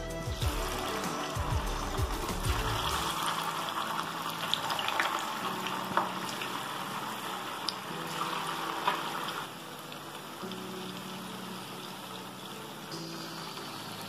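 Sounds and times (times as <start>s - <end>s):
deep-frying sizzle with pops: 0.2s - 14.0s.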